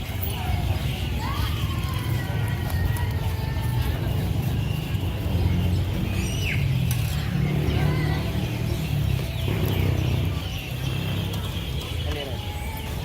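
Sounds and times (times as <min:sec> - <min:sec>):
market low rumble: 0:00.0 - 0:13.0.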